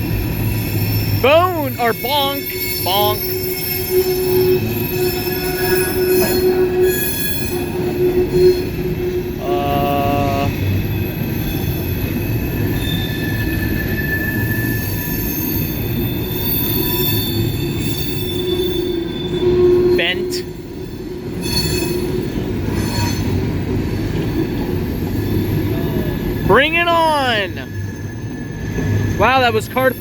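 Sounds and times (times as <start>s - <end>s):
train wheels rumbling on rails: 0.0s - 30.0s
wheels squealing: 0.0s - 30.0s.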